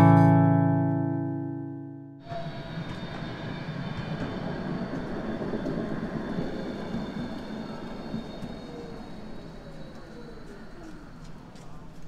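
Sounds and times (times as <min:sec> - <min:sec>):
tram wheels rumbling on rails: 0:02.2 - 0:12.0.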